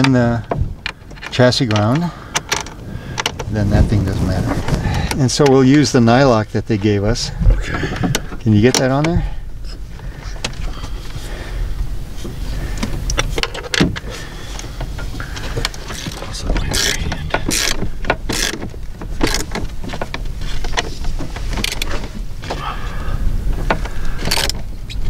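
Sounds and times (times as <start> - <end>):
steady low rumble: 0.1 - 25.0.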